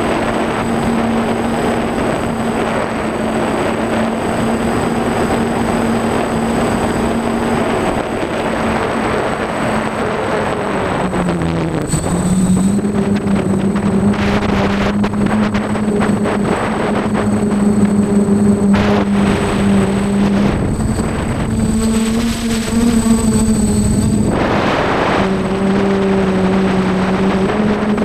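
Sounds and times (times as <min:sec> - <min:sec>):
drone motors and propellers humming: 0:00.0 - 0:28.0
wind gusting on microphone: 0:00.0 - 0:28.0.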